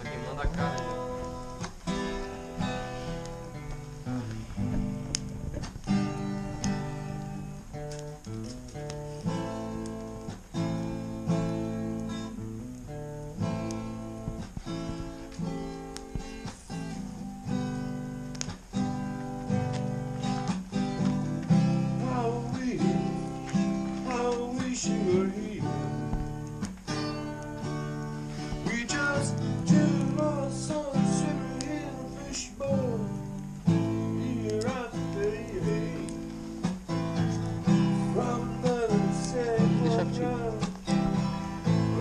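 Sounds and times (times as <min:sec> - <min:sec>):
guitar lead melody: 0:00.0 - 0:42.0
strummed acoustic guitar chords: 0:00.0 - 0:42.0.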